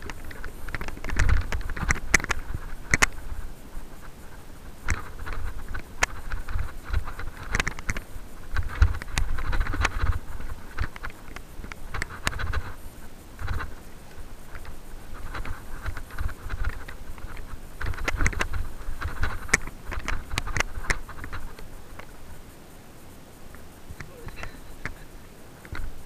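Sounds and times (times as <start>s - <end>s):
tyre and wind rumble: 0.0s - 26.0s.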